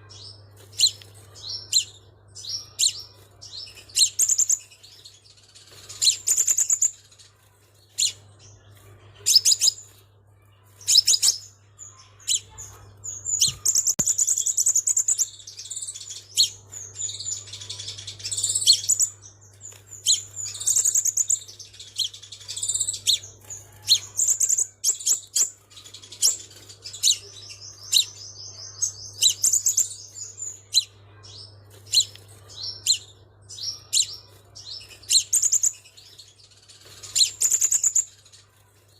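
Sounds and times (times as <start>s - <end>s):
bird chirps and trills: 0.0s - 38.9s.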